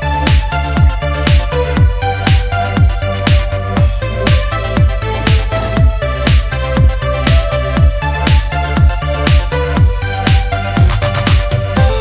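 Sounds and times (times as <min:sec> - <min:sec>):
electronic music: 0:00.0 - 0:12.0
kick drum: 0:00.0 - 0:12.0.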